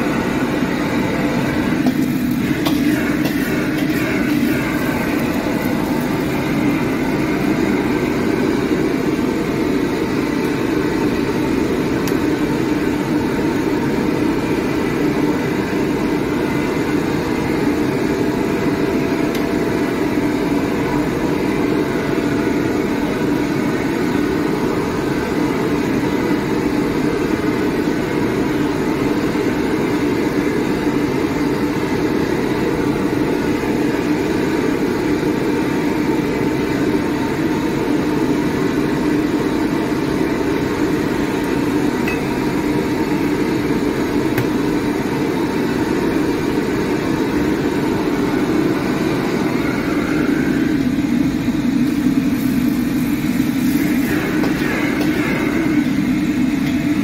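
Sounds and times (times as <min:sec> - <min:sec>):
gas burner roaring: 0:00.0 - 0:57.0.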